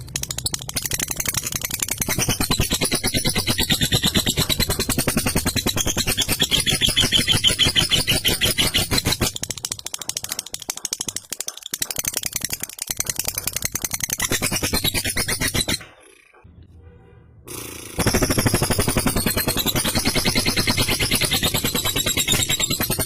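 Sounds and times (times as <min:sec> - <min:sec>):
lovebird chattering trill: 0:00.1 - 0:16.2, 0:17.9 - 0:23.0.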